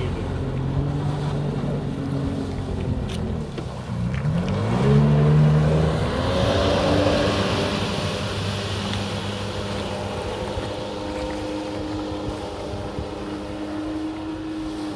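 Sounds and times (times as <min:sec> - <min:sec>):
jet ski engine revving: 0:00.0 - 0:14.9.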